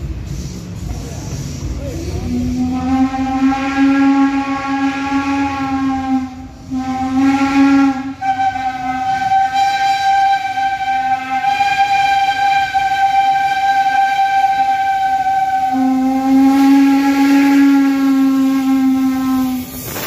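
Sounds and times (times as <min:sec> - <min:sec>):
steam whistle chord blasts: 0:02.2 - 0:20.0.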